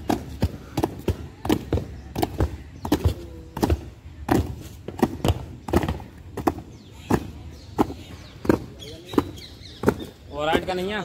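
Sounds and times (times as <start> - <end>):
marching boots on concrete: 0.0 - 10.8.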